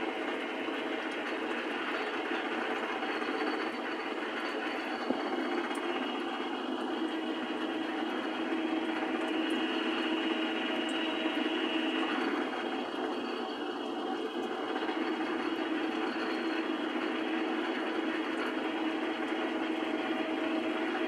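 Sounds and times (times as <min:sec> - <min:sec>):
lathe drilling metal: 0:00.0 - 0:21.0
machine hum: 0:00.0 - 0:21.0.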